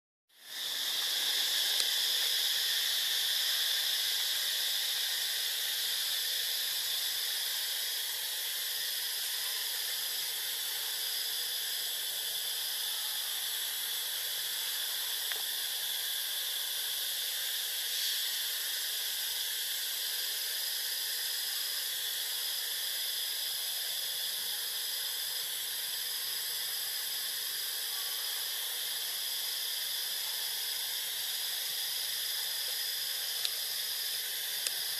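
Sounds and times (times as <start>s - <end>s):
insects buzzing shrilly: 0.3s - 34.9s.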